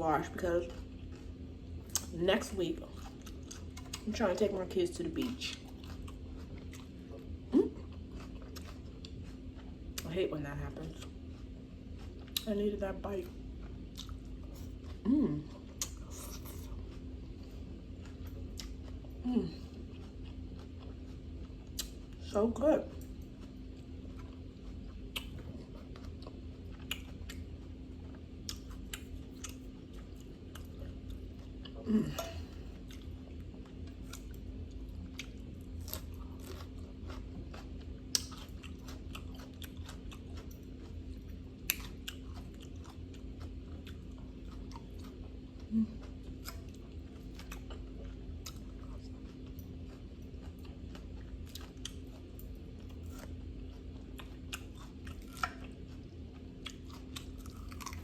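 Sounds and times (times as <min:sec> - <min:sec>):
chewing salad: 0:00.0 - 0:58.0
crunching raw vegetables: 0:00.2 - 0:58.0.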